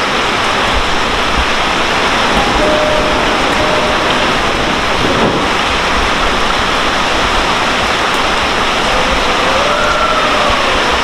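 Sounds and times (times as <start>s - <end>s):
heavy rain pouring: 0.0s - 11.0s
electric train motors whining: 1.6s - 10.9s.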